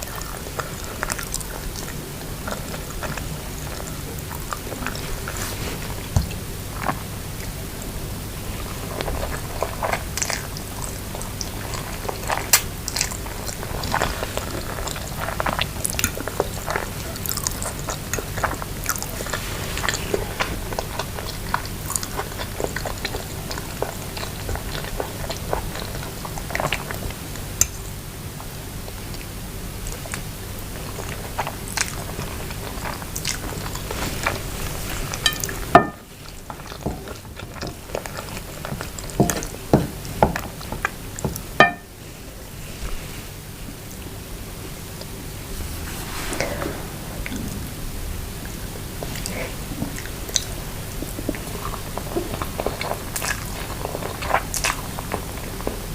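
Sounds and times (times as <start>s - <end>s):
chewing noodles: 0.0s - 42.0s, 48.4s - 55.9s
steady low hum: 0.0s - 54.3s.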